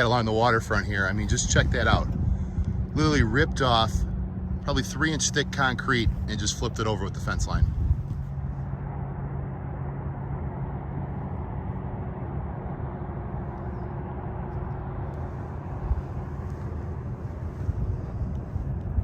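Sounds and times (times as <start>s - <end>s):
car driving on road: 0.0s - 19.0s
constant low hum: 0.0s - 19.0s.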